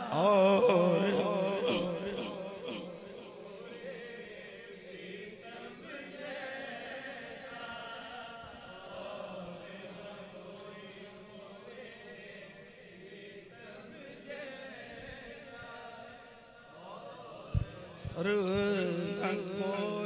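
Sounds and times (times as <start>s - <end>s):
men chanting softly: 0.0s - 20.0s.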